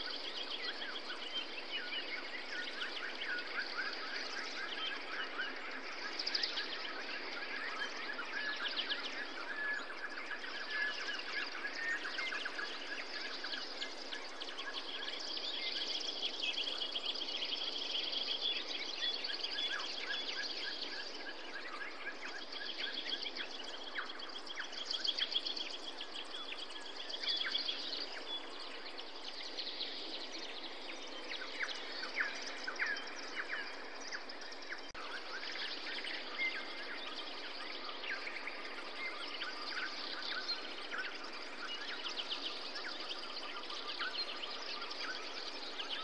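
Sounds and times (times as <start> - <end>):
steady background hiss: 0.0 - 46.0
wild birds chirping and trilling: 0.0 - 46.0.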